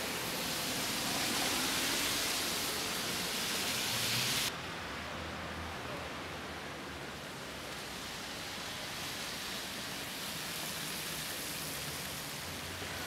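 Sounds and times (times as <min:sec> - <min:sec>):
city street ambience hiss: 0:00.0 - 0:13.0.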